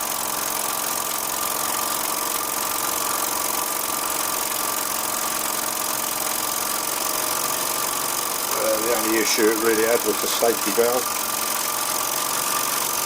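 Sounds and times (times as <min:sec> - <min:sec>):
model steam engine hissing: 0:00.0 - 0:13.0.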